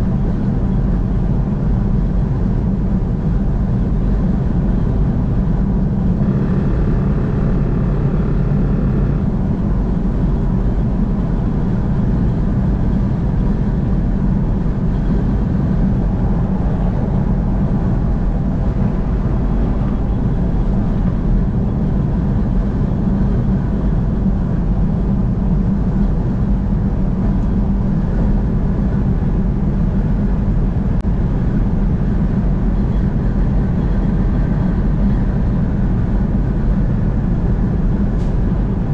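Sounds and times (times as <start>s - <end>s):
car driving at highway speed: 0.0s - 38.9s.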